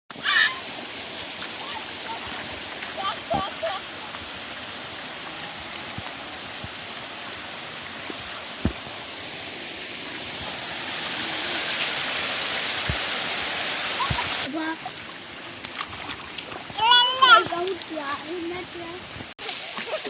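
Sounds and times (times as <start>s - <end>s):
waterfall and stream rushing: 0.1s - 20.0s.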